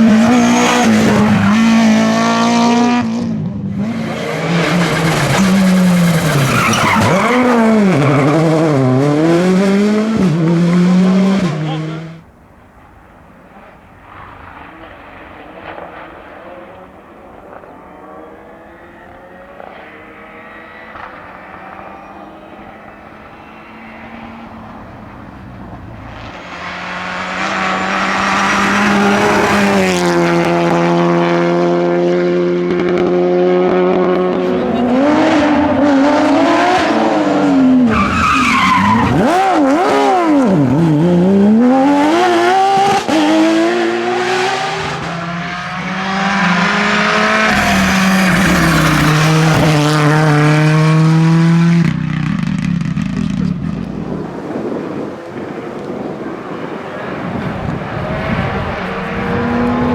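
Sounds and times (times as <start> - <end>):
rally car engine revving: 0.0 - 12.4, 13.6 - 59.9.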